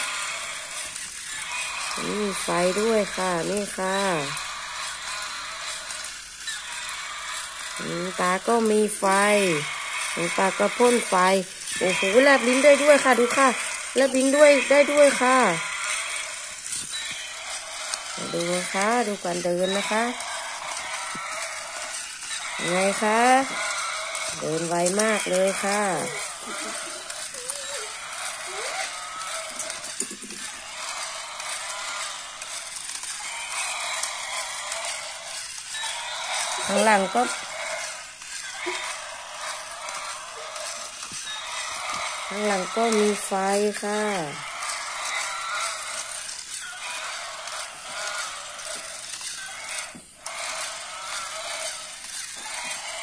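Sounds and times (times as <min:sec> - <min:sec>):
plastic legs clicking on tile: 0:00.0 - 0:53.0
toy gear motor rattling: 0:00.0 - 0:53.0.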